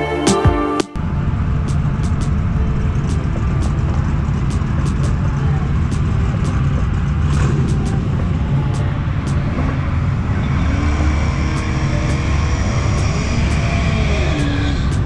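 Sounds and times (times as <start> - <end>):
car engine running: 1.1 - 15.0.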